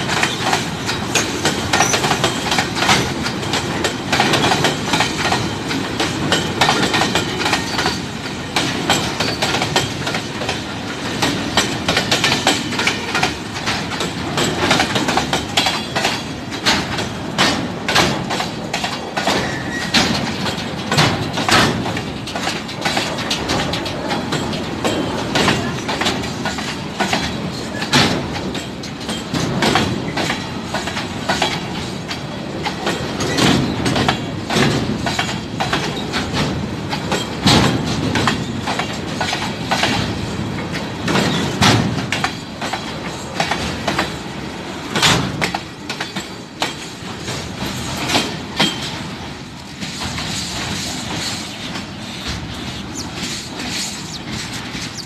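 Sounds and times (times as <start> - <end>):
train wheel rumble: 0.0 - 55.0
wheels clicking on rails: 0.0 - 55.0.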